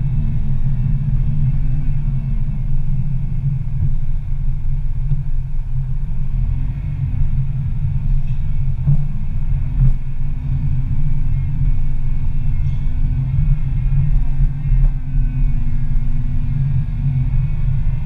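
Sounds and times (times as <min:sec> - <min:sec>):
car driving in traffic: 0:00.0 - 0:18.0.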